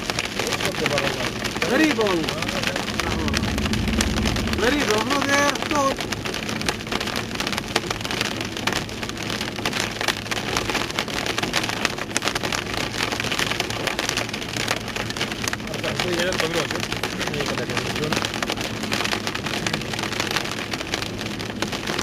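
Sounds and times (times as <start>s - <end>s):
hail striking a hard surface: 0.0s - 22.0s
heavy rain: 0.0s - 22.0s.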